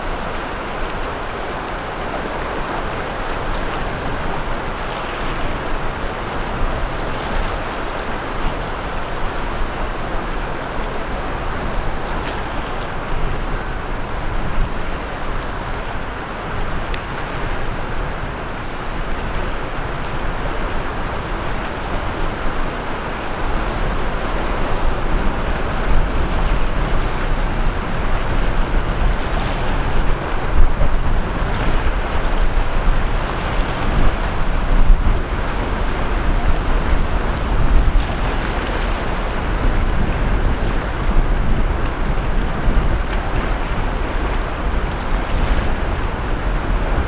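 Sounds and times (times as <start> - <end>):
sea surf washing onto beach: 0.0 - 47.0
wind buffeting microphone: 0.0 - 47.0.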